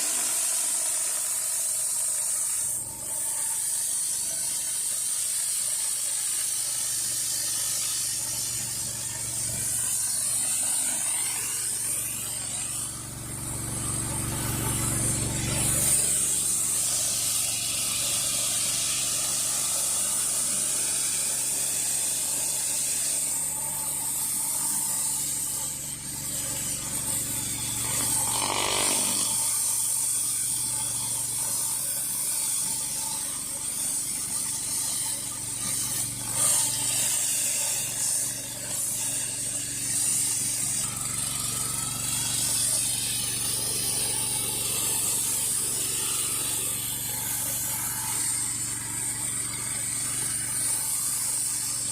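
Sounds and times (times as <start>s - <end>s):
high-pressure water spraying: 0.0s - 51.9s.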